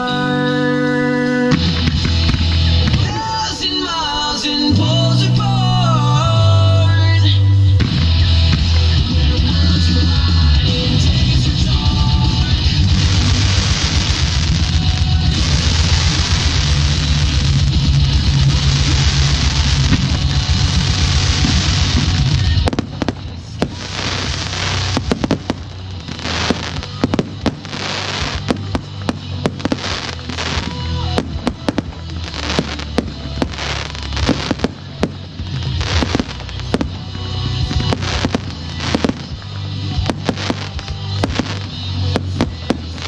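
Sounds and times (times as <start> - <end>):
background music: 0.0 - 43.0
fireworks bangs and crackles: 1.4 - 6.1, 7.7 - 43.0.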